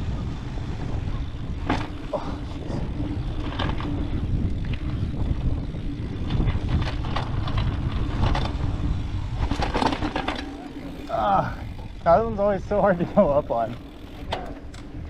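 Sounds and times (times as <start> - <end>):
bike rattling over bumps: 0.0 - 15.0
tyres on dirt: 0.0 - 15.0
wind rumbling on microphone: 0.0 - 15.0.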